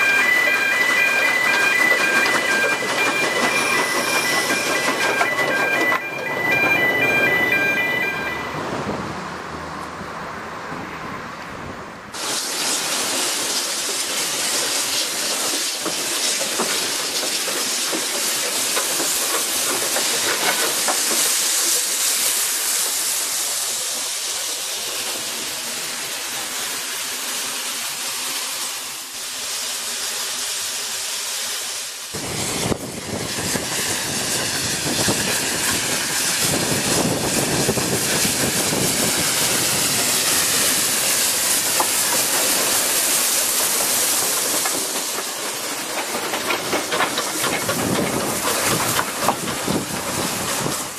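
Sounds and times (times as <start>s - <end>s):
steam locomotive hissing: 0.0s - 10.0s, 12.1s - 50.9s.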